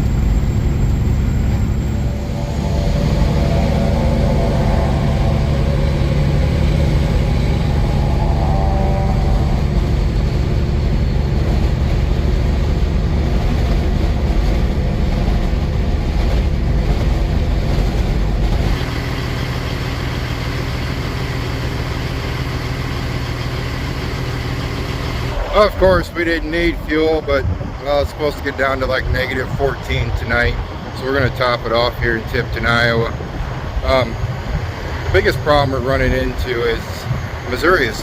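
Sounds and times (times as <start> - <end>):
road noise: 0.0 - 38.0
truck diesel engine running: 0.0 - 38.0.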